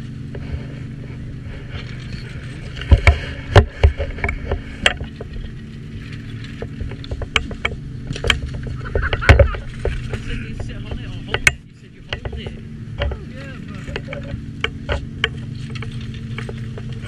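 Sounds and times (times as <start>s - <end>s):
chairlift machinery humming: 0.0s - 17.0s
sharp clacks and knocks: 1.8s - 17.0s.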